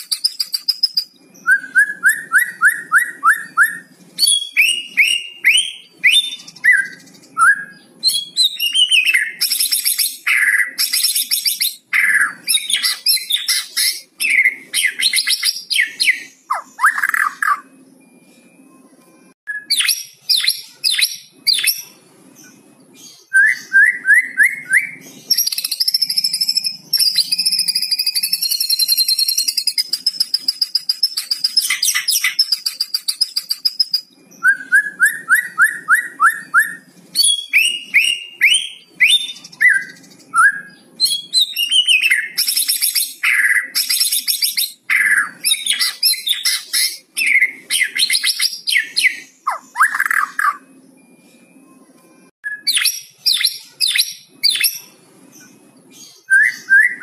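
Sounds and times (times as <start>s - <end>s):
songbird singing: 0.0s - 51.8s, 52.4s - 57.0s.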